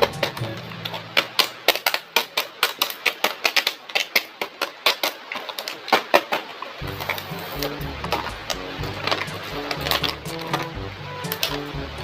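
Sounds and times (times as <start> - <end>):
plastic pieces clicking and tapping: 0.0 - 11.8.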